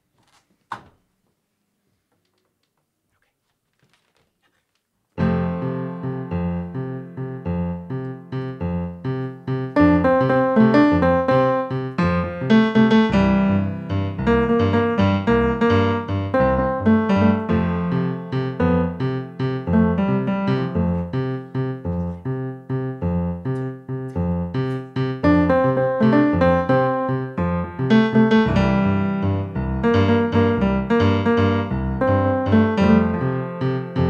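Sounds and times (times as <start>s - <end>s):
rhythmic piano piece: 5.2s - 34.0s.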